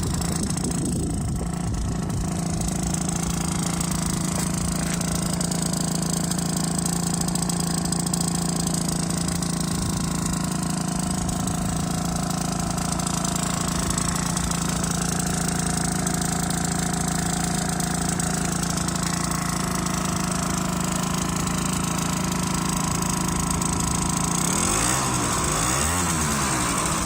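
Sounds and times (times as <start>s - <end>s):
engine revving: 0.0s - 27.0s
scooter engine idling: 0.0s - 27.0s.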